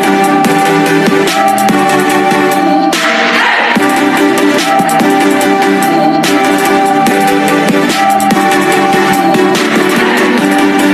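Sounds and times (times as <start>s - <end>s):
electronic background music: 0.0s - 10.9s.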